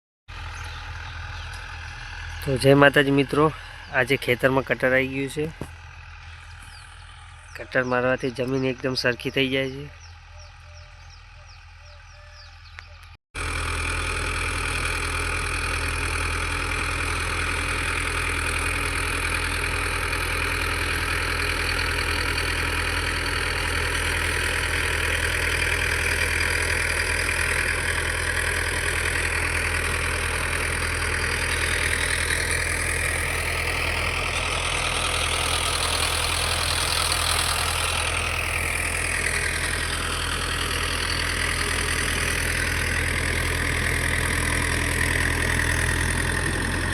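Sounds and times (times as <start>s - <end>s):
tractor diesel engine under load: 0.3s - 46.9s.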